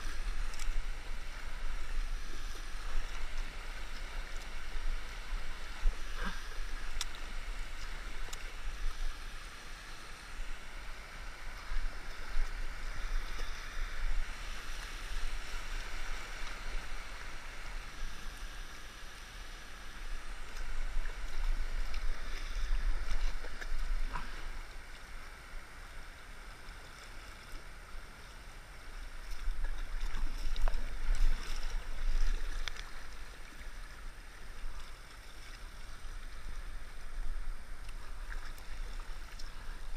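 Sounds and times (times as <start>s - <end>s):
paddle strokes in water: 0.0s - 39.9s
water splashing along hull: 0.0s - 39.9s.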